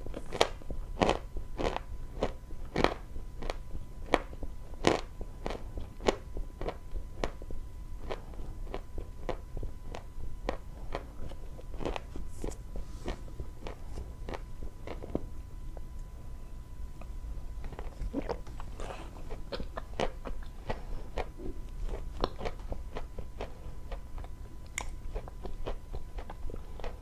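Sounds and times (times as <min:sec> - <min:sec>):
chewing chalk crunches: 0:00.1 - 0:07.4, 0:08.0 - 0:16.1, 0:17.0 - 0:27.0.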